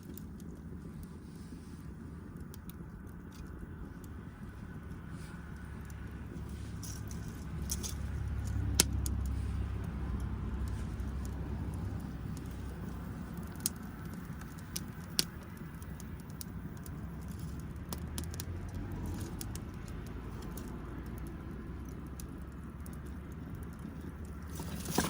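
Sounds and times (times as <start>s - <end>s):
fire pops and snaps: 0.0s - 25.0s
low rumble: 0.0s - 25.0s
wood fire crackling: 0.0s - 25.0s.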